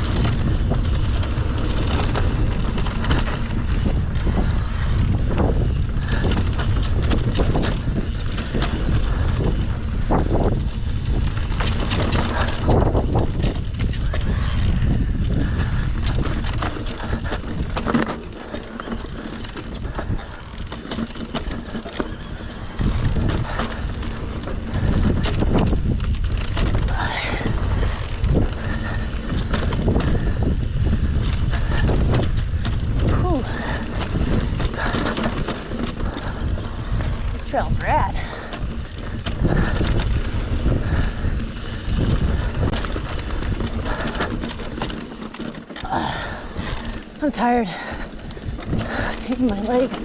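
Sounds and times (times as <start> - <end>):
bike rattling and knocking: 0.0 - 50.0
wind rumbling on microphone: 0.0 - 50.0.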